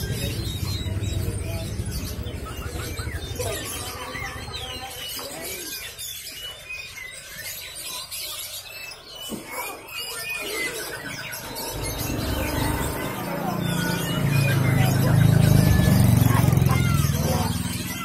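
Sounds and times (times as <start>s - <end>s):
caged birds chirping: 0.0s - 18.0s.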